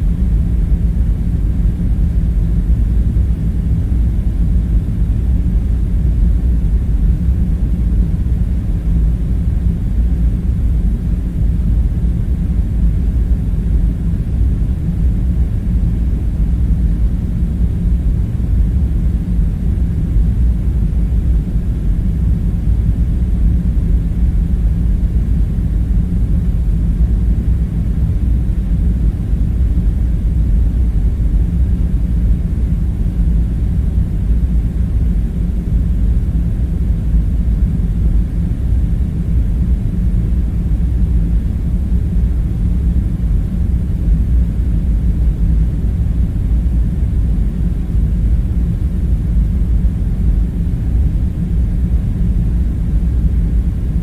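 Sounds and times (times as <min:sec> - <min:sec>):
low rumbling room drone: 0:00.0 - 0:54.0.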